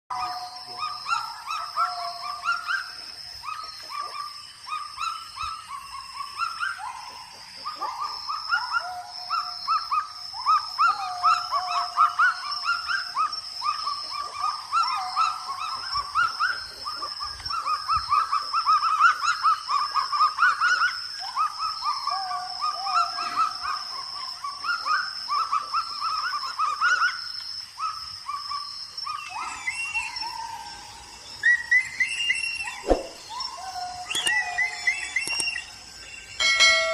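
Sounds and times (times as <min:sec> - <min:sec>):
bird barking calls: 0:00.1 - 0:36.9.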